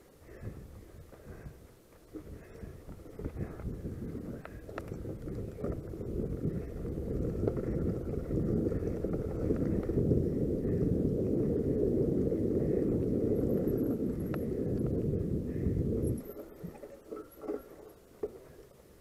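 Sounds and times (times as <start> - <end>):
bike rumbling over bumpy trail: 0.1 - 19.0
wind buffeting microphone: 0.2 - 17.9.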